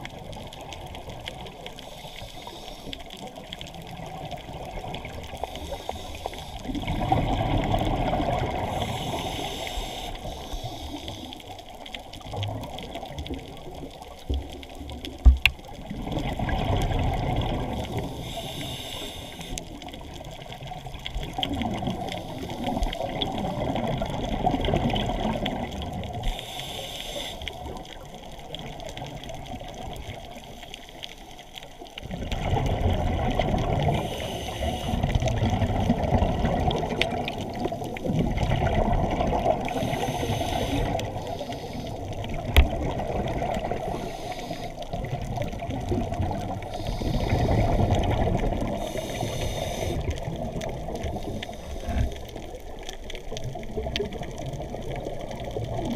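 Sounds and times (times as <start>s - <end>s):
water rushing and bubbling underwater: 0.0s - 55.9s.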